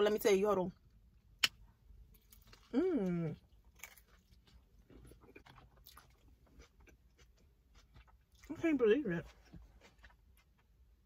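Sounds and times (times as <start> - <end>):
faint chewing with soft crunches: 0.5 - 11.0.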